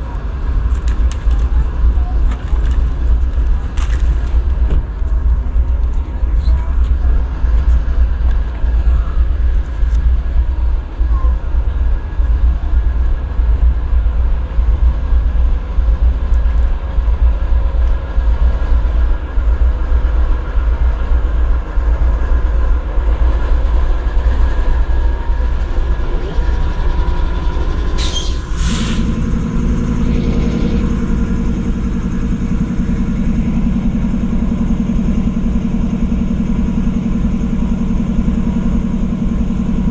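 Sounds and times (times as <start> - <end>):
locomotive diesel engine idling: 0.0 - 39.9.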